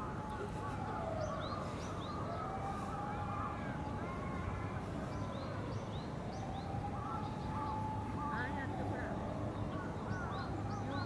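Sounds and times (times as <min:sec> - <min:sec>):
faint distant voices: 0:00.0 - 0:11.0
low city rumble: 0:00.0 - 0:11.0.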